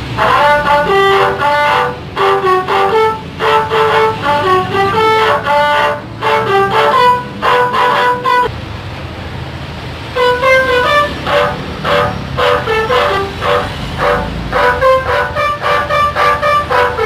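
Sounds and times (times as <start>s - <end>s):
bus musical horn playing tune: 0.0s - 8.5s, 10.1s - 17.0s
low engine hum: 0.0s - 17.0s.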